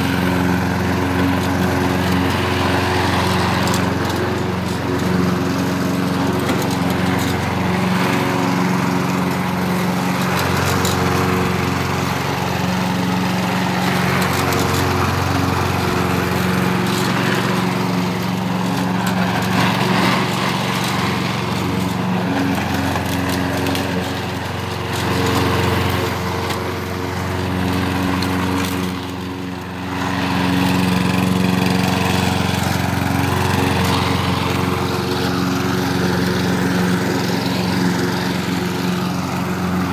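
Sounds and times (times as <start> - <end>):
lawn mower cutting grass: 0.0 - 39.9.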